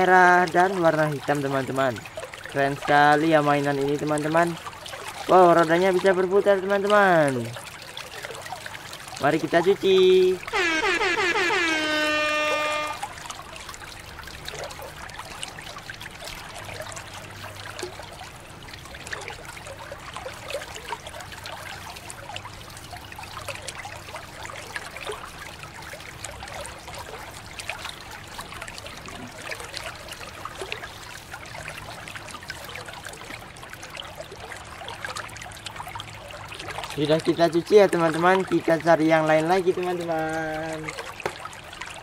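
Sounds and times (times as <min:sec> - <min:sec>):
water pouring and splashing into tub: 0:00.0 - 0:42.0.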